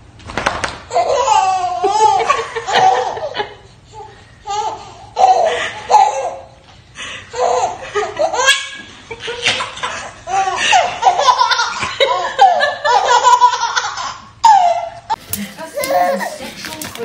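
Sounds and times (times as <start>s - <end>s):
baby laughing: 0.9s - 6.5s, 7.3s - 17.0s.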